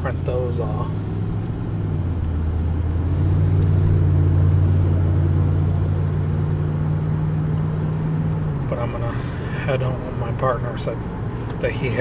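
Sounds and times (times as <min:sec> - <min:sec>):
car cabin hum and rumble: 0:00.0 - 0:12.0.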